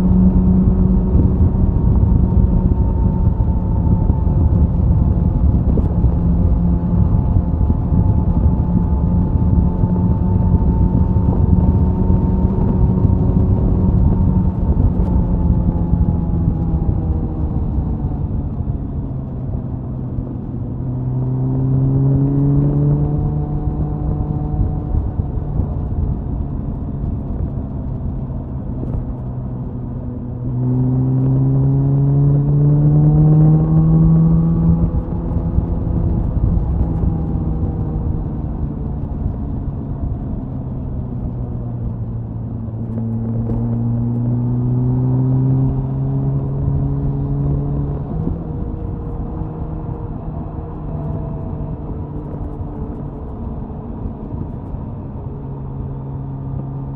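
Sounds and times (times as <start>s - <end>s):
motorcycle exhaust at speed: 0.0s - 56.9s
wind rush on microphone: 0.0s - 56.9s.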